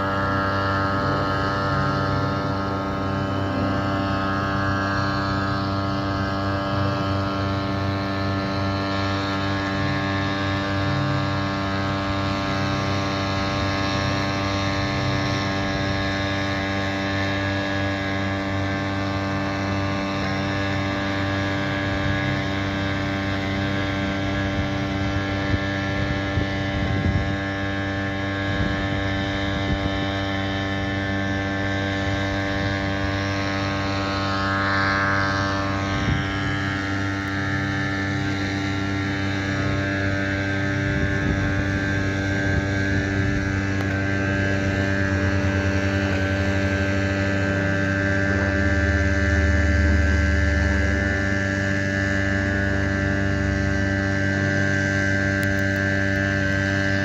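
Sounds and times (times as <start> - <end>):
aircraft engines droning: 0.0 - 57.0
aircraft passing: 0.0 - 57.0.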